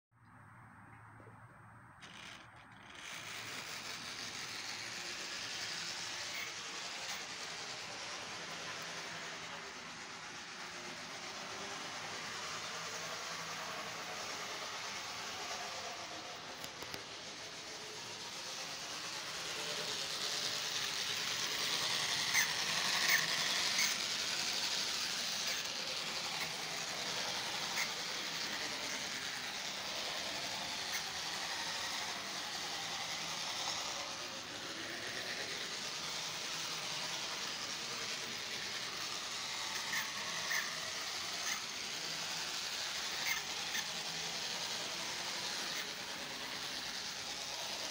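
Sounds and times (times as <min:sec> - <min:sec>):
model train motor whirring: 0:02.0 - 0:47.9.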